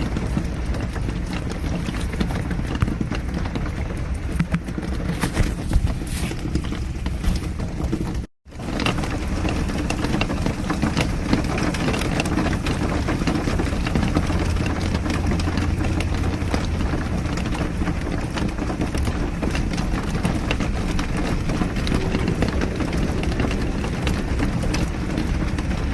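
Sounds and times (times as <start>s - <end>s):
car engine and road rumble: 0.0s - 25.9s
raindrops ticking: 0.0s - 25.9s.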